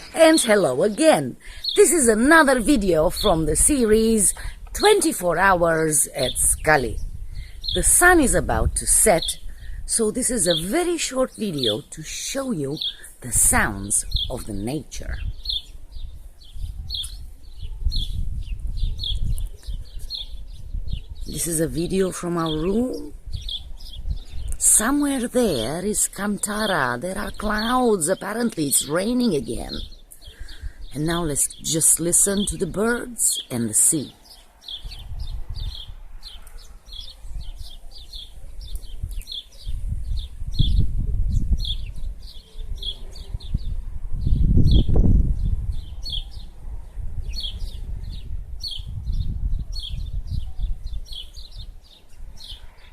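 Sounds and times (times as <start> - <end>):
bird chirping: 0.0 - 52.9.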